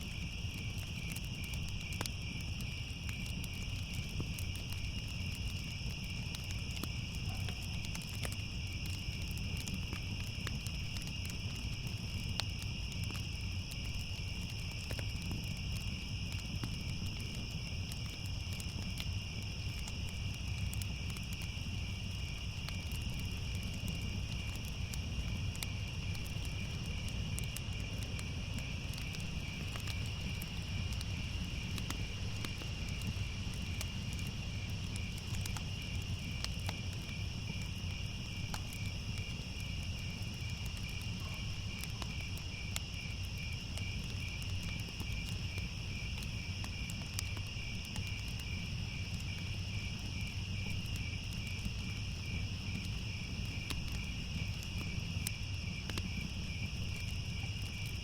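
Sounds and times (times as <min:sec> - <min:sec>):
crickets trilling: 0:00.0 - 0:58.0
fire crackling: 0:00.0 - 0:58.0.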